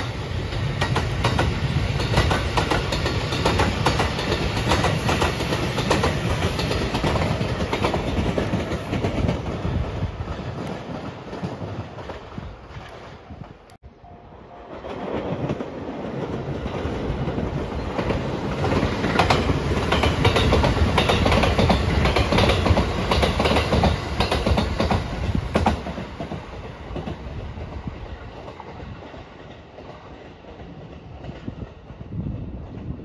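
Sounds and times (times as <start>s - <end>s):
train passing close by: 0.0s - 33.0s.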